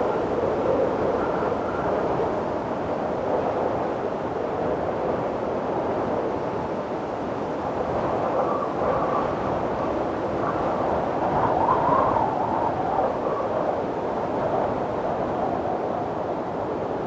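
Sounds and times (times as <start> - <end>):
faint high wind whistle: 0.0 - 6.7, 7.6 - 17.0
strong wind rushing: 0.0 - 17.0.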